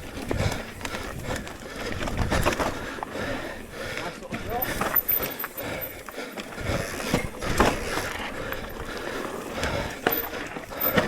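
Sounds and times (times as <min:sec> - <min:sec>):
bike rattling: 0:00.0 - 0:11.0
bike tyres on rocky trail: 0:00.0 - 0:11.0.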